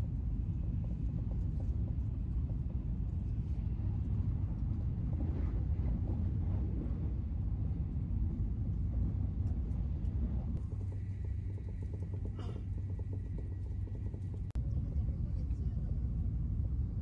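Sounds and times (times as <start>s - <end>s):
train carriage rumble and hiss: 0.0s - 17.0s.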